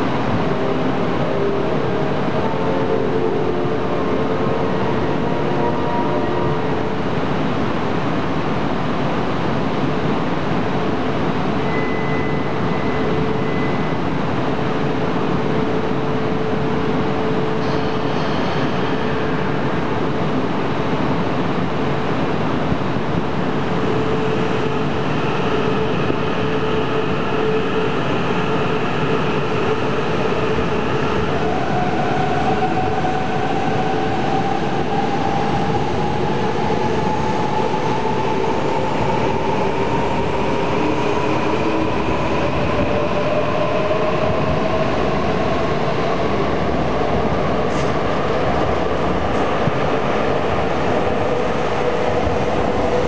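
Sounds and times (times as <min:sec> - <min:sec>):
train running noise with hum: 0:00.0 - 0:53.0.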